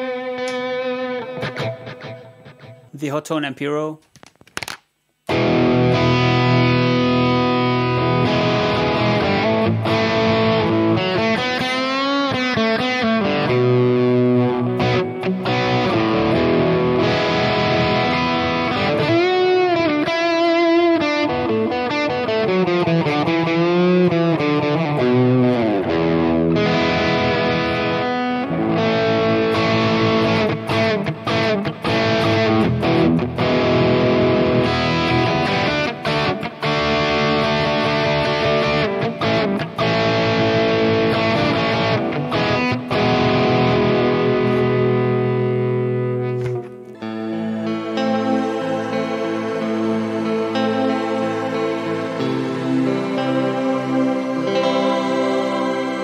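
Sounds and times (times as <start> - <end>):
electric guitar with crunch tone: 0.0 - 3.0, 4.3 - 56.0.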